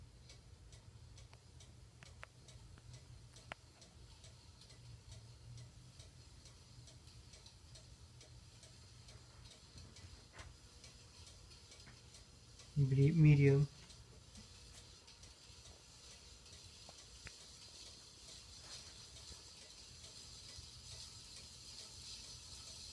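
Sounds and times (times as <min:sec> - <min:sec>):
ceiling fan low hum: 0:00.0 - 0:22.9
ceiling fan ticking: 0:00.0 - 0:22.9.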